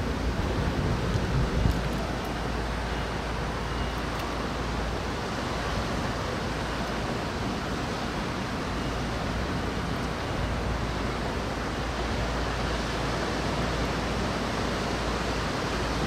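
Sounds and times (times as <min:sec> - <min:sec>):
wind noise with low rumble: 0:00.0 - 0:16.0.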